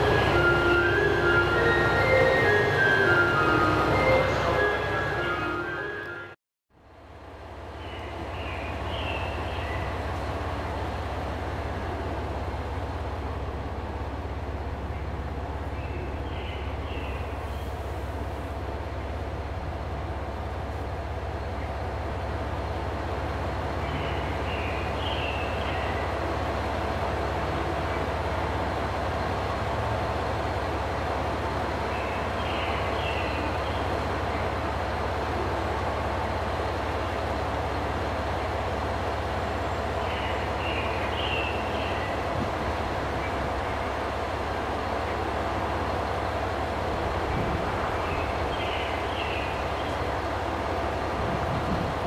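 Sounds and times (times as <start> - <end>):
low hum and rumble: 6.8 - 52.0.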